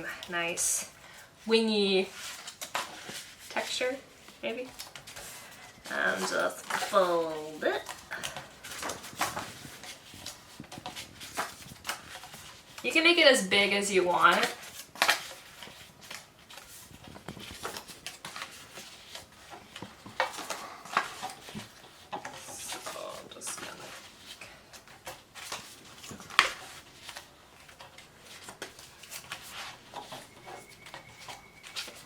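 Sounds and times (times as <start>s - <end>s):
cardstock folding and crinkling: 0.0s - 32.0s.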